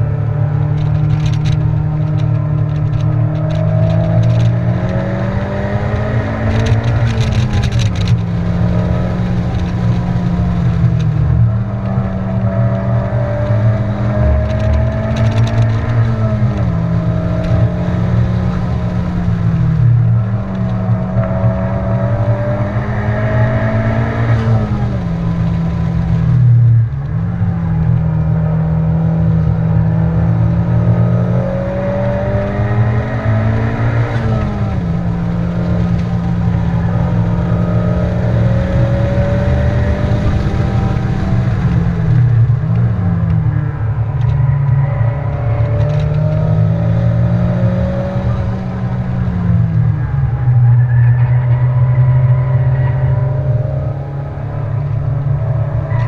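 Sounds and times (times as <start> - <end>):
car engine at high revs: 0.0 - 56.0
road and wind noise: 0.0 - 56.0.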